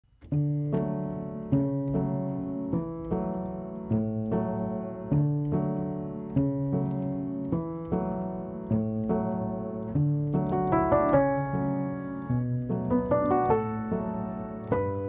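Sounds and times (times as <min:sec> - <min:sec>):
piano music: 0:00.1 - 0:15.0.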